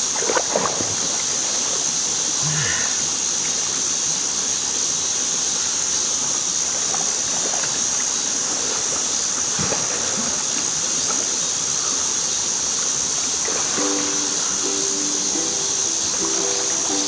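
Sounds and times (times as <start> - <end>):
steady high hiss: 0.0 - 17.0
stream water flowing: 0.0 - 17.0.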